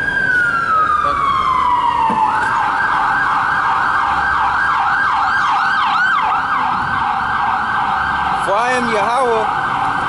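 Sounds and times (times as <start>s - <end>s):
emergency siren yelping: 0.0s - 10.0s.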